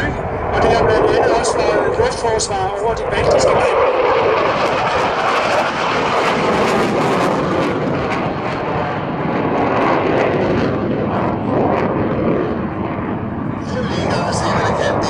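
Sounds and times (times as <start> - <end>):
fighter jet engine roar: 0.0 - 15.0.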